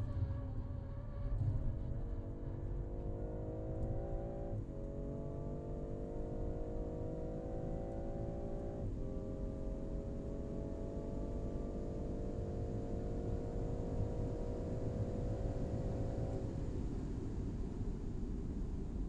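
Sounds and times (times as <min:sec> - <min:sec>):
car engine accelerating: 0:00.0 - 0:17.0
wind and tyre noise: 0:00.0 - 0:19.0.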